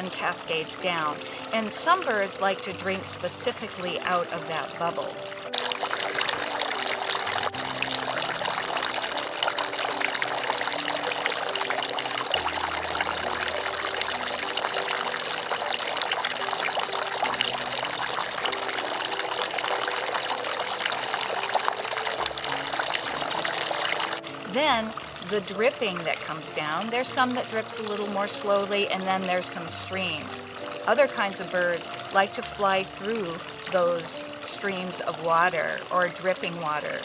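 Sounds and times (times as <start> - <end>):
fountain water splashing and trickling: 0.0 - 37.0.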